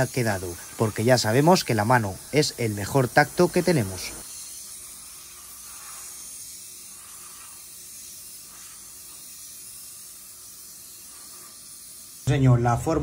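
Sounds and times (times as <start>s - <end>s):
air blow gun hissing: 0.0s - 13.0s.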